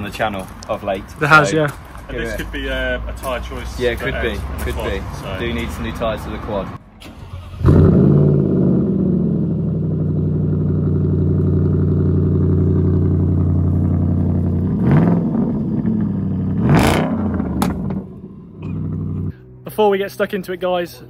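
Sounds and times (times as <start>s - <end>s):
car engine idling and revving: 0.0s - 19.6s.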